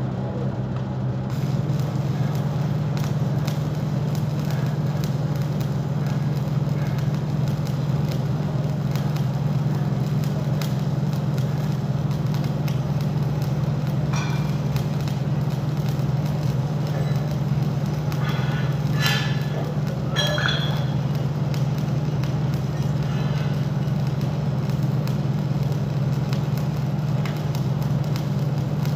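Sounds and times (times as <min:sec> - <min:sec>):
steady low hum: 0:00.0 - 0:28.9
welding arc crackling: 0:01.0 - 0:28.9.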